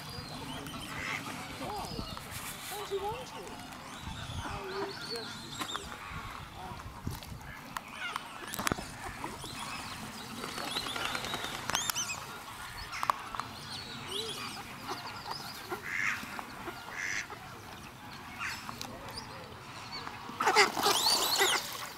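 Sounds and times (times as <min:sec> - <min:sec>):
swans and ducks calling: 0:00.0 - 0:21.9.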